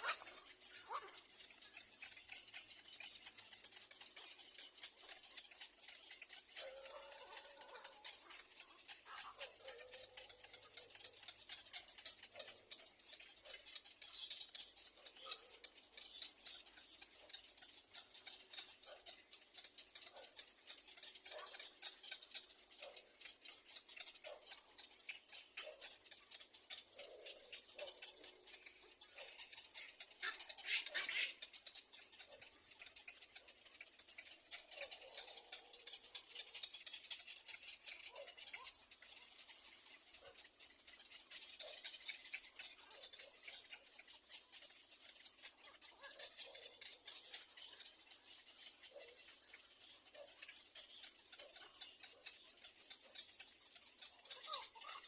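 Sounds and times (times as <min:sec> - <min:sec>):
rapid dry ticking: 0:00.0 - 0:55.0.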